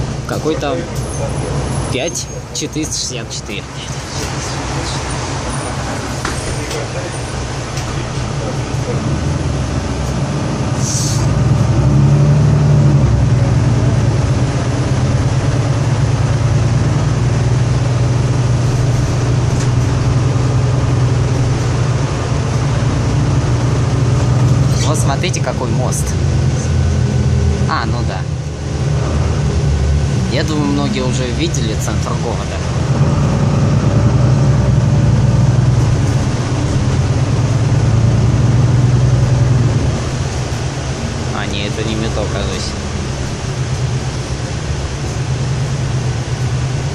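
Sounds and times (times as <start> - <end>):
bus engine accelerating: 0.0 - 46.9.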